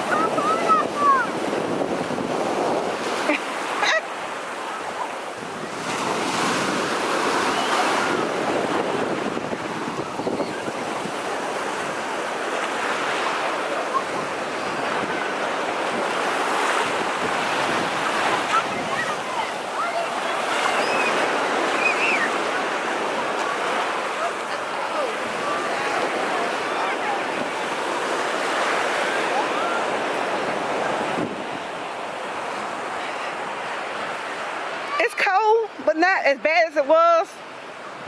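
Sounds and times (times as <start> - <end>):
wind buffeting microphone: 0.0 - 35.1
surf washing onto beach: 0.0 - 36.2, 37.3 - 38.0.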